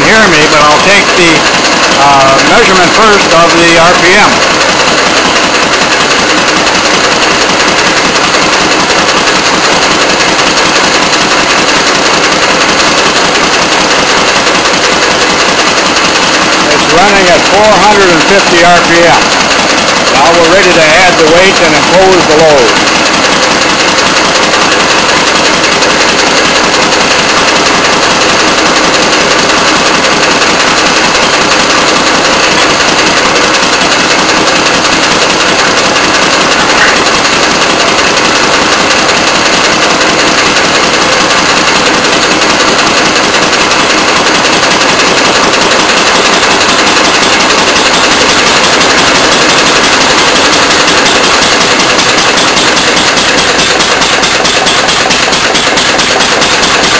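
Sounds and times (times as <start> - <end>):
stationary engine running: 0.0 - 56.9.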